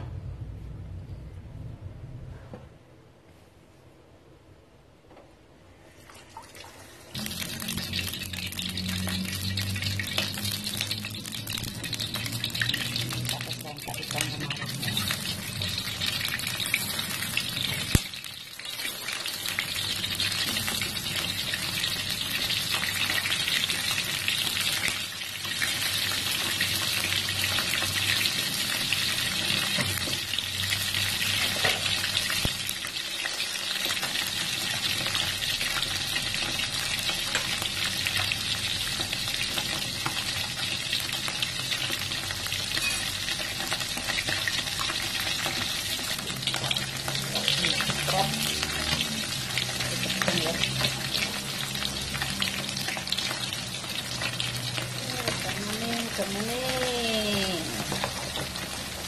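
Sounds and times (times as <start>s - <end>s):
fish frying in hot oil: 6.6s - 59.0s.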